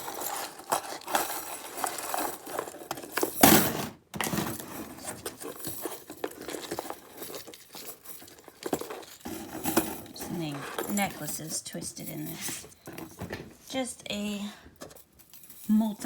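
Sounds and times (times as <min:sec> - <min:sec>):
metal chains and beads clinking: 0:00.0 - 0:16.0.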